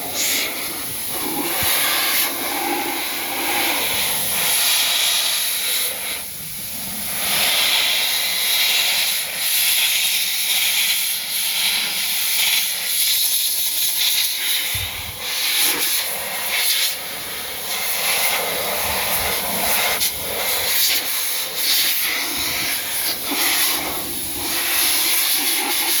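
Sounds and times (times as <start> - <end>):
air blower hissing: 0.0 - 26.0.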